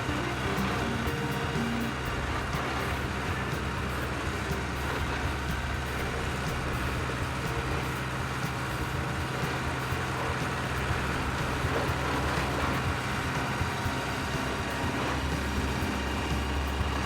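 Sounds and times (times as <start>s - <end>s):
large vehicle engine humming: 0.0s - 17.0s.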